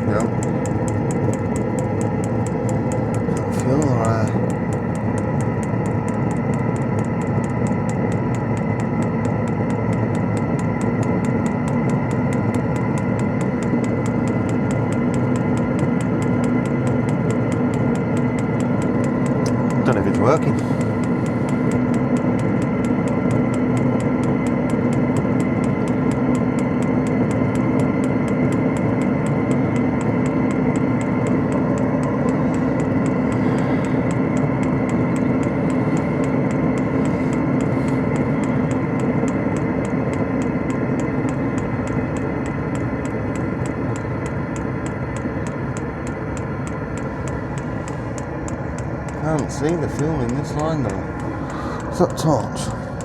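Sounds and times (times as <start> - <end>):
fast regular ticking: 0.0 - 53.0
heater fan whir and hum: 0.0 - 53.0.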